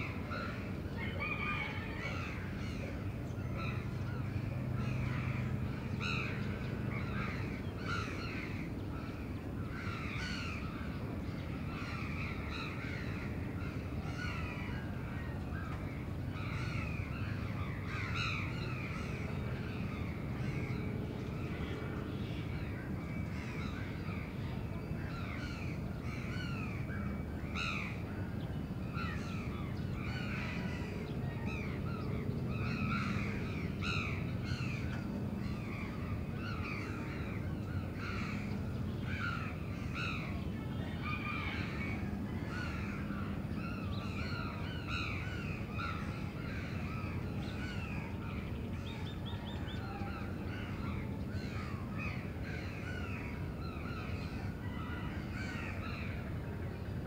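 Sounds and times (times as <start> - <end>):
low city hum: 0.0 - 57.0.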